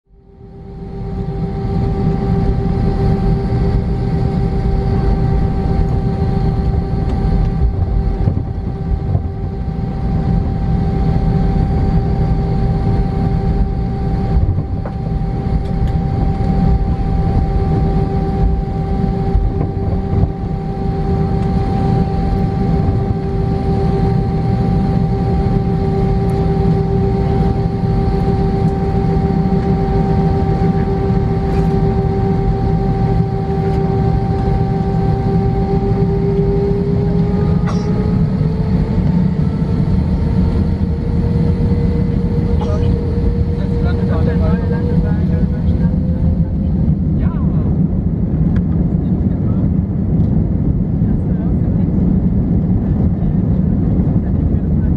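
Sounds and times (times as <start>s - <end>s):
jet engines humming at idle: 0.1s - 54.9s
wheels rumbling on taxiway: 0.7s - 54.9s.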